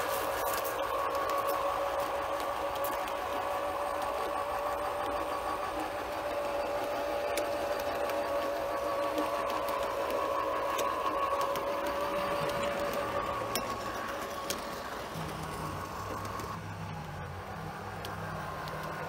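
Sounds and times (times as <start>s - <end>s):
model train electric whine: 0.0s - 19.0s.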